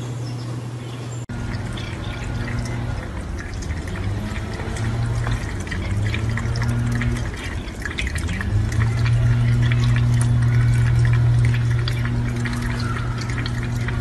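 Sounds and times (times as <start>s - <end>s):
low hum: 0.0s - 14.0s
cat lapping water: 1.3s - 14.0s
tap water running into sink: 1.3s - 14.0s.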